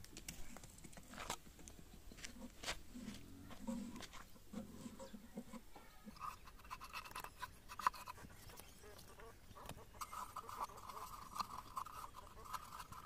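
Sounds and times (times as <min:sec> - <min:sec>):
hand scraping wooden box: 0:02.4 - 0:13.0.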